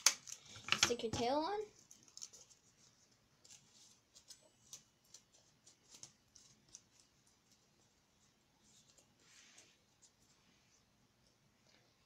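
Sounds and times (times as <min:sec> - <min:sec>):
sticky tape and paper crinkling: 0:00.0 - 0:10.4.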